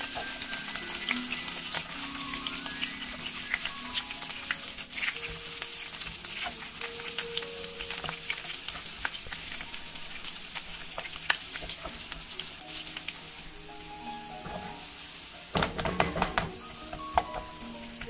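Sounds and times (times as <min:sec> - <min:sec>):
food sizzling in hot oil: 0:00.0 - 0:18.0
wooden spatula stirring in pan: 0:00.0 - 0:18.0.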